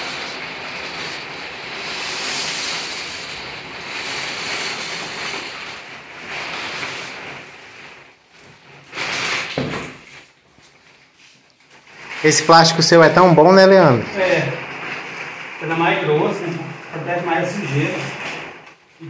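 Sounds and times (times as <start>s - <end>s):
plastic sheet rustling and crinkling: 0.0s - 19.0s.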